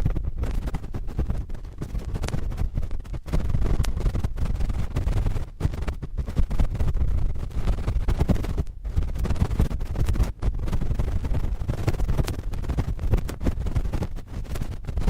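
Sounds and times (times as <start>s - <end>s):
cotton swab scratching microphone: 0.0s - 15.0s
microphone handling rumble: 0.0s - 15.0s.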